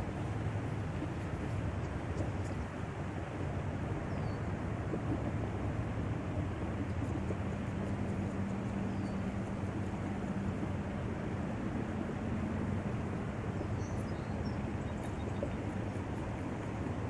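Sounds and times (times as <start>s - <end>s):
low droning hum: 0.0s - 17.0s
outdoor rumble and hiss: 0.0s - 17.0s.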